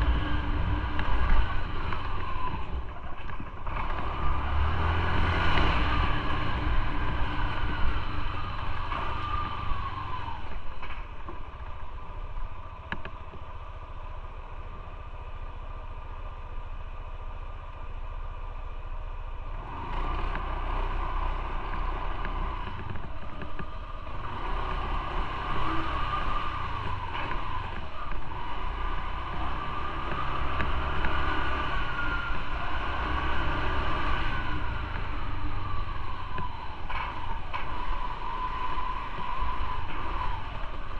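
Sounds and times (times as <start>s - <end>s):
motorcycle engine revving: 0.0s - 13.5s, 19.4s - 40.9s
road noise: 0.0s - 40.9s.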